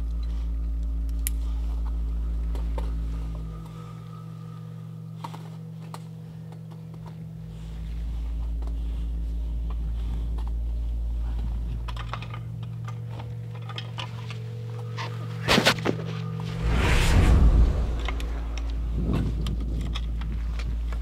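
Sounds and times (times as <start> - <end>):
low steady hum: 0.0 - 15.4, 16.0 - 21.0.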